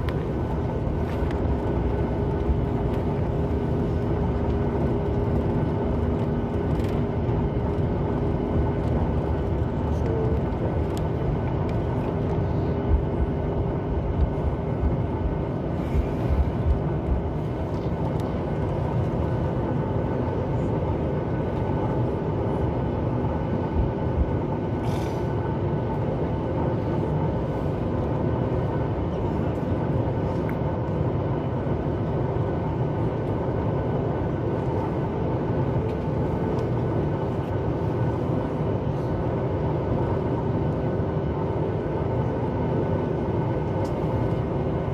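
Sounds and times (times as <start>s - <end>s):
aircraft cabin rumble: 0.0s - 44.9s.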